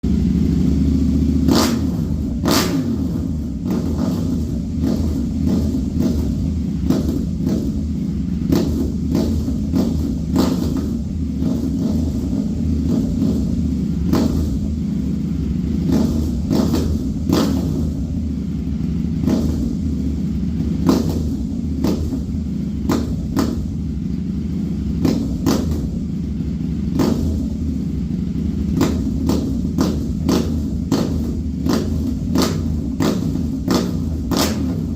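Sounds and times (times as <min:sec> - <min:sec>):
motorcycle engine low rumble: 0:00.0 - 0:34.9.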